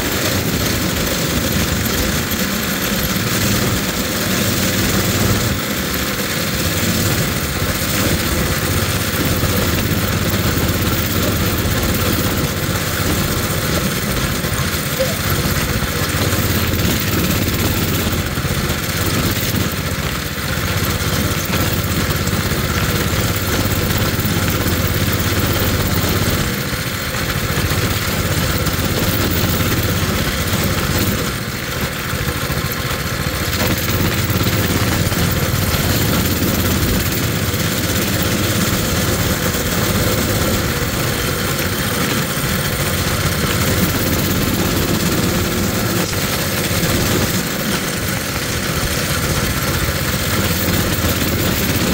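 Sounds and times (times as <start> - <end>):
mini bike engine running: 0.0 - 51.9.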